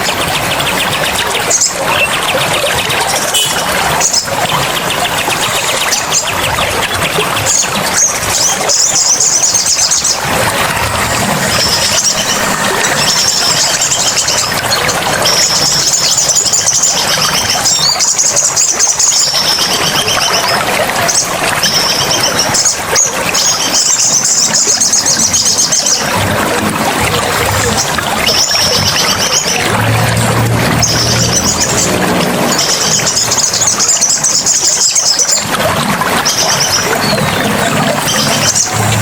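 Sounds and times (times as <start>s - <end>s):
running water: 0.0s - 39.0s.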